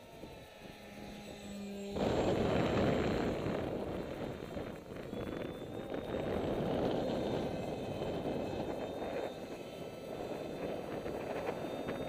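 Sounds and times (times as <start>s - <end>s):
faint high electric motor whine: 0.0s - 12.0s
wind buffeting microphone: 0.1s - 12.0s.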